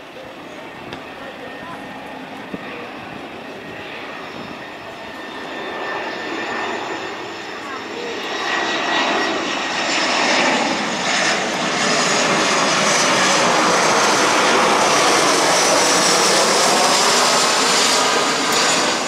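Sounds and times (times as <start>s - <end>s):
jet airliner passing overhead: 0.0s - 19.0s.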